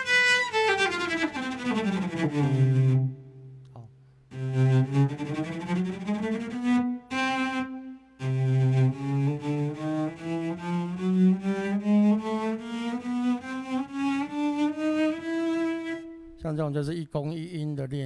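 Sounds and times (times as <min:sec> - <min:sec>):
sampled cello on keyboard: 0:00.0 - 0:16.5.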